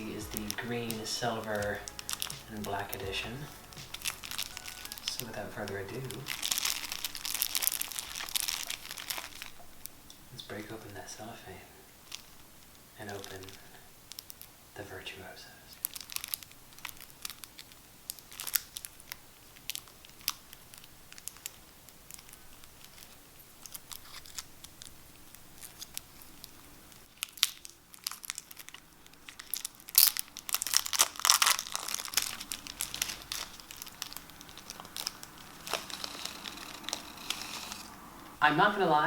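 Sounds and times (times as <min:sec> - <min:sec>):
cellophane wrapper crinkling: 0:00.0 - 0:11.0, 0:12.0 - 0:14.6, 0:15.7 - 0:38.4.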